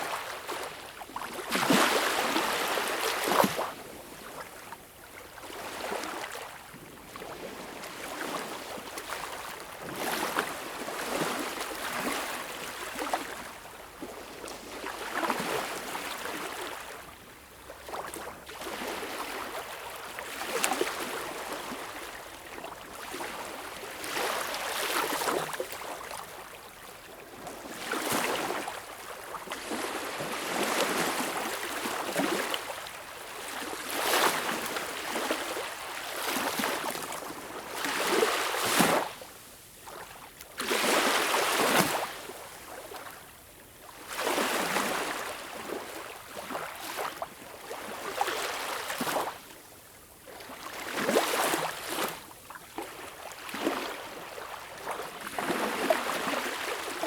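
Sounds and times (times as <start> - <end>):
small waves washing on shore: 5.2 - 49.5, 50.3 - 57.0.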